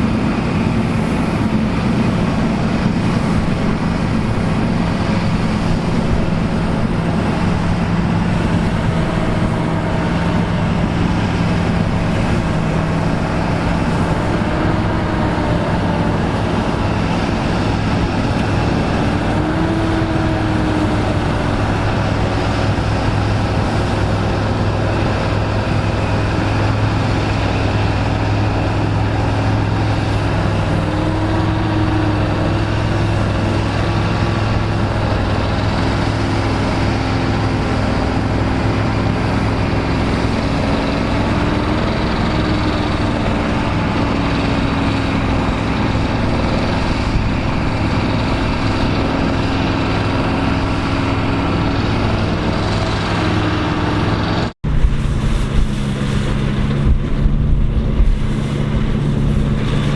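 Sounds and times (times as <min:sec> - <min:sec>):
diesel farm engines running: 0:00.0 - 0:59.9.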